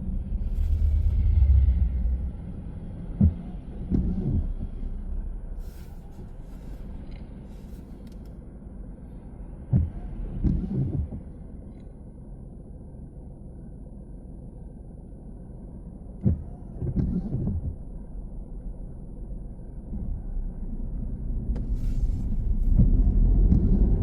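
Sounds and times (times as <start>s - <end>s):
road rumble in car: 0.0s - 24.0s.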